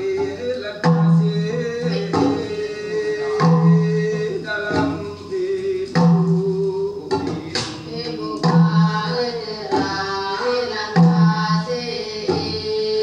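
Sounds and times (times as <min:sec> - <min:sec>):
solo singing voice over speakers: 0:00.0 - 0:13.0.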